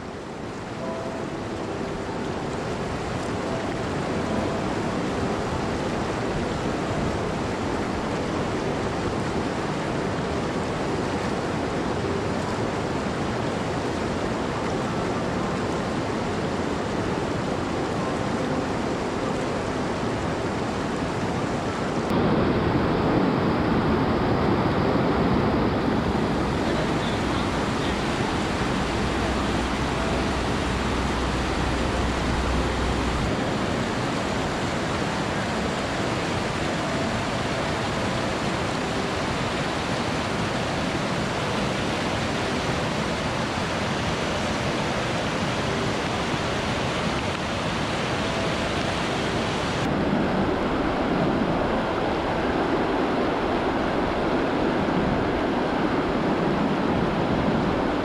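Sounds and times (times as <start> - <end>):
river rushing over boulders: 0.0 - 58.0.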